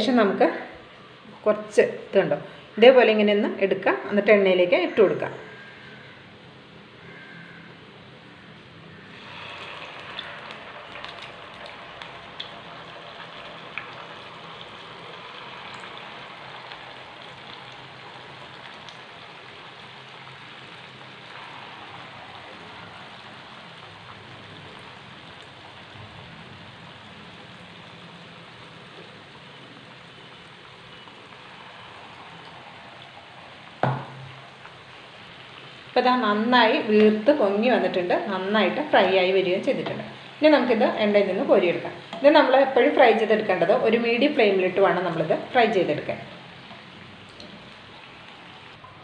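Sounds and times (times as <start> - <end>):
hot oil sizzling: 7.9 - 49.0.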